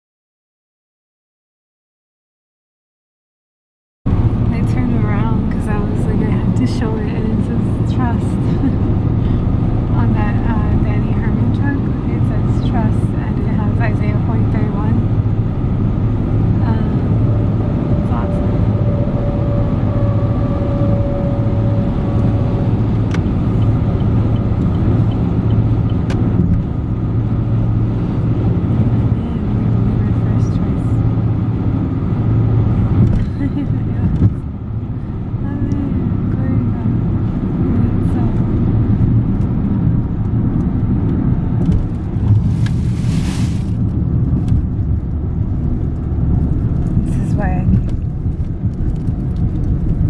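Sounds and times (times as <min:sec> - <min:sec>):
car road and engine noise: 0:04.1 - 0:50.0.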